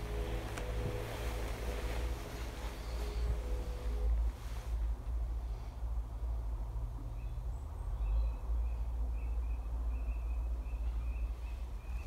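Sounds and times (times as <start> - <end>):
low rumble on the microphone: 0.0 - 12.0.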